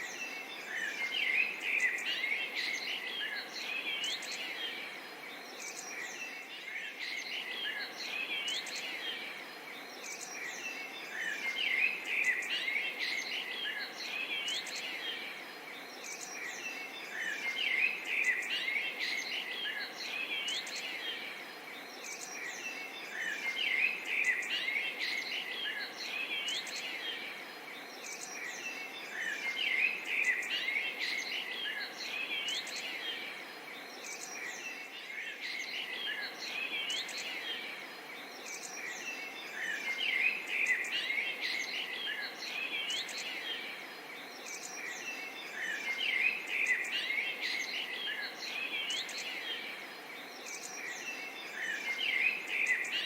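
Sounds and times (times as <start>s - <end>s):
background hiss: 0.0s - 53.0s
birds chirping: 0.0s - 53.0s.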